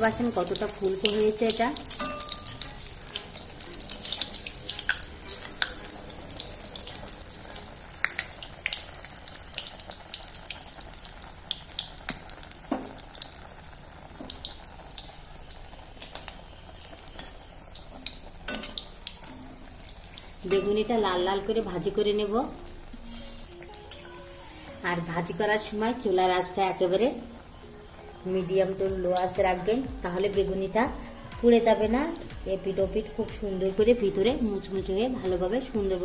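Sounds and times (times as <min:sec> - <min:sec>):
deep-frying sizzle in oil: 0:00.0 - 0:36.0.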